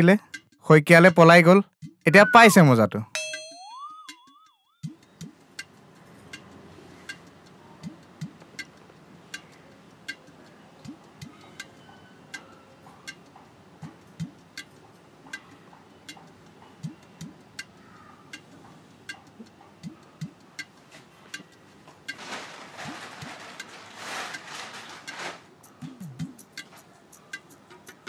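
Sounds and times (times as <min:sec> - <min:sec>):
sharp ticking beat: 0:00.0 - 0:12.5, 0:13.1 - 0:21.6, 0:25.6 - 0:28.0.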